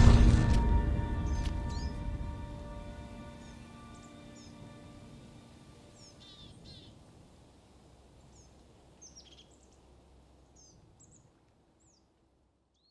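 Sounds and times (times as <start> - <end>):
faint outdoor ambience: 0.0 - 12.9.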